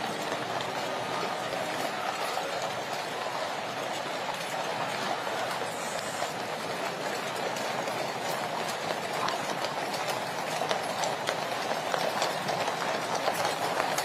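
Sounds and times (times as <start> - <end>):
horse hoofbeats: 0.0 - 14.0
wheels rumbling on road: 0.0 - 14.0.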